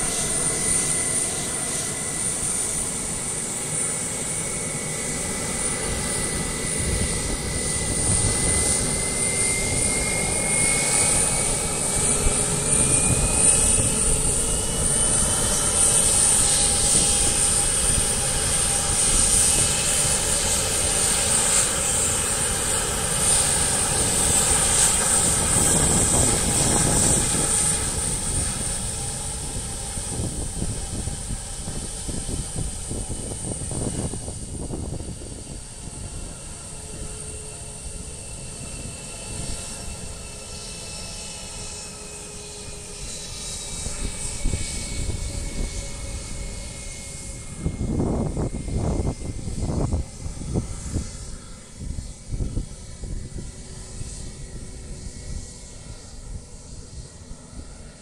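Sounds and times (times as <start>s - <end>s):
jet engines running with whine: 0.0s - 58.0s.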